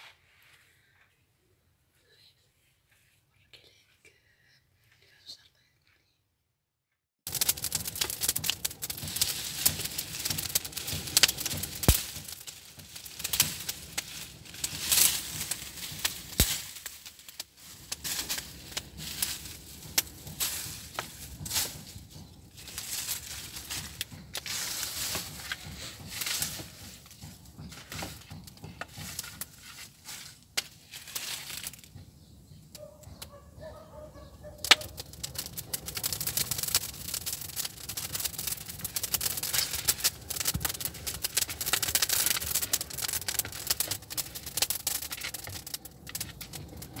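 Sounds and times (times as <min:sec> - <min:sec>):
wood fire crackling and popping: 0:07.2 - 0:47.0.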